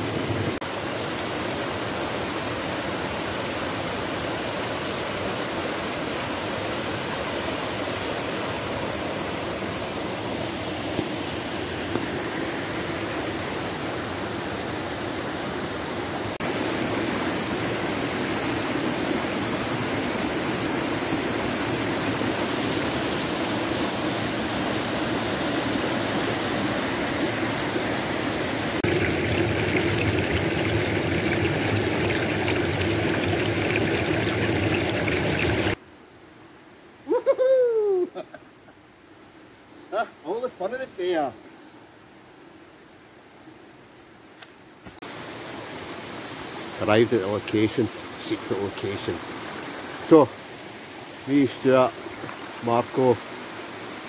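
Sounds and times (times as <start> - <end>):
stream rushing over rocks: 0.0 - 35.8, 44.9 - 54.0.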